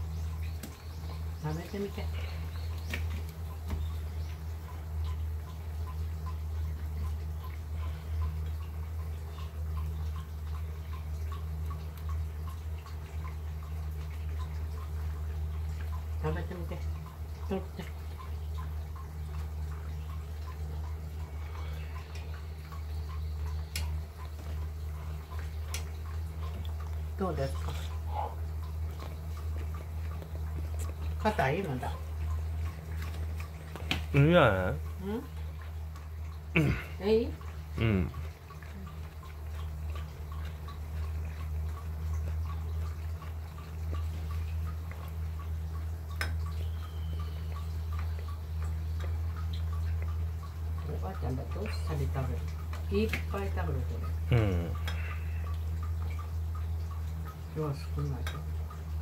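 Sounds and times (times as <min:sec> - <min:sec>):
faint even ticking: 0:00.0 - 0:59.0
steady low hum: 0:00.0 - 0:59.0.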